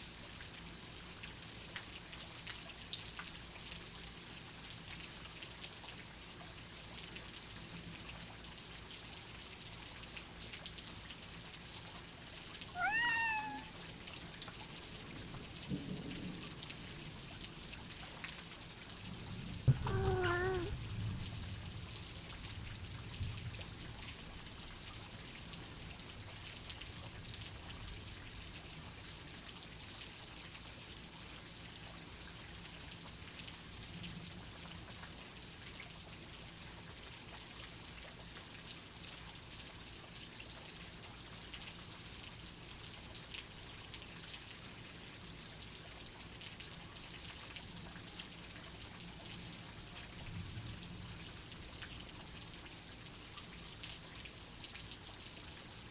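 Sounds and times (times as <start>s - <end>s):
steady rainfall patter: 0.0s - 55.9s.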